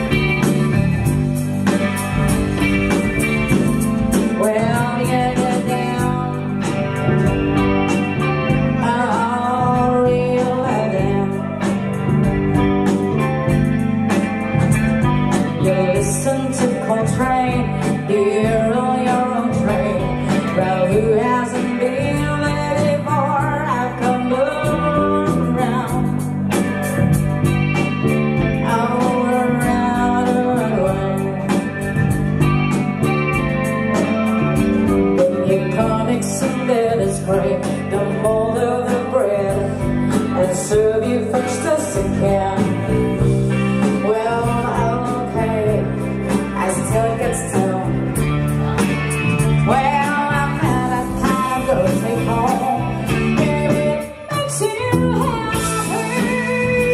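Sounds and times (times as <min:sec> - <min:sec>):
bass guitar: 0:00.0 - 0:56.9
drums with cymbal beat: 0:00.0 - 0:56.9
electric guitar: 0:00.0 - 0:56.9
woman singing into a microphone: 0:04.1 - 0:13.0, 0:15.0 - 0:32.2, 0:34.8 - 0:48.5, 0:49.4 - 0:56.9.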